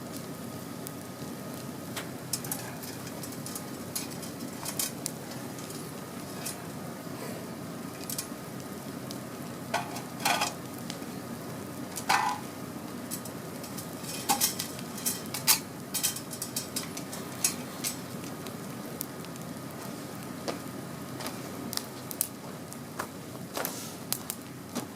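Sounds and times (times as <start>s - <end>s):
campfire crackling: 0.0s - 24.9s.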